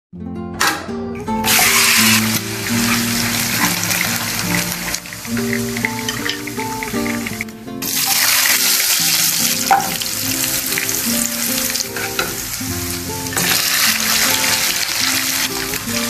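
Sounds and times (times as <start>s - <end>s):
light background music: 0.2s - 16.0s
hot oil sizzling in a pan: 1.4s - 16.0s.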